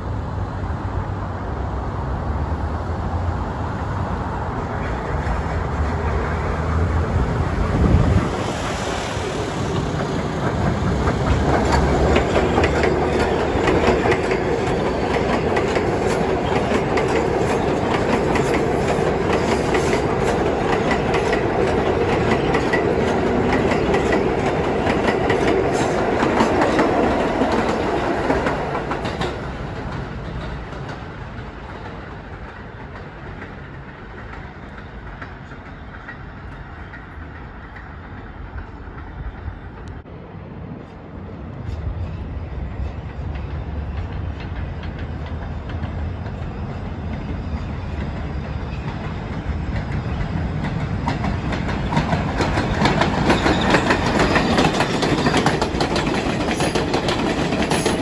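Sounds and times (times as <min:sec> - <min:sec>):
subway train rumble: 0:00.0 - 0:58.0
wheels clacking over rail joints: 0:04.6 - 0:40.1, 0:41.7 - 0:58.0.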